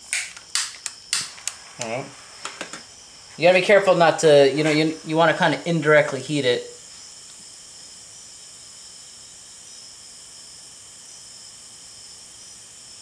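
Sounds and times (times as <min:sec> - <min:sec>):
heat gun hissing: 0:00.0 - 0:10.8.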